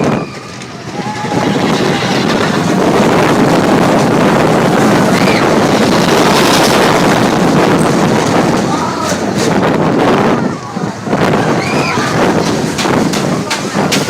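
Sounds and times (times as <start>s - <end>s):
roller coaster rumble and rattle: 0.0s - 14.0s
wind buffeting microphone: 0.0s - 14.0s.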